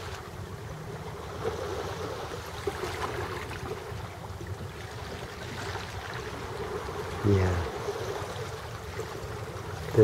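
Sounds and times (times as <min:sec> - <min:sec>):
small waves lapping against rocks: 0:00.0 - 0:10.0.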